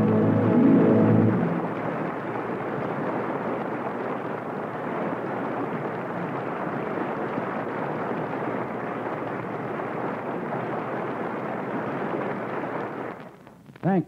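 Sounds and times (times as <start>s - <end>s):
audience applause: 0.0s - 13.4s.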